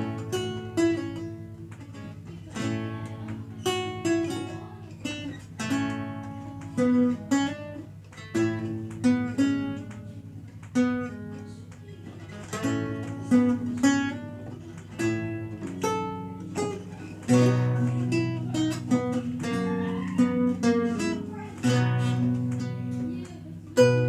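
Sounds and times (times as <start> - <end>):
solo lute plucked: 0.0 - 24.0.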